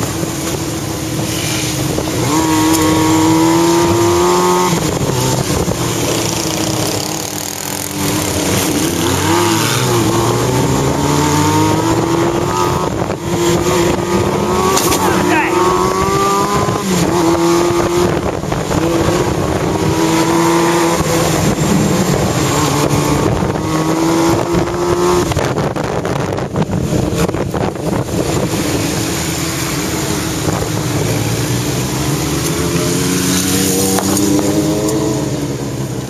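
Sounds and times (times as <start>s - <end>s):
motorcycle engine accelerating: 0.0s - 36.0s
wind noise on microphone: 0.0s - 36.0s.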